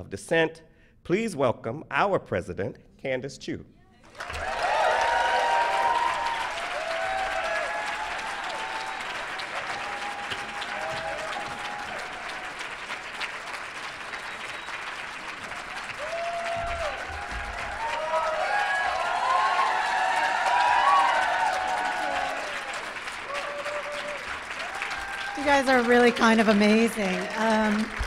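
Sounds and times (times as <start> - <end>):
audience applauding: 4.0 - 28.0.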